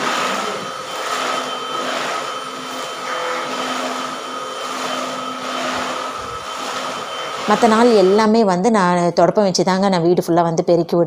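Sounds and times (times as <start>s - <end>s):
vacuum cleaner running: 0.0s - 9.1s.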